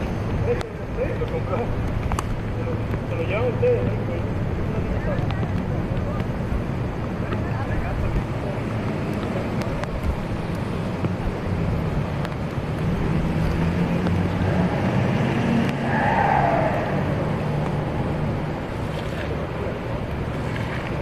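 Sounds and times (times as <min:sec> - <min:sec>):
outdoor noise: 0:00.0 - 0:21.0.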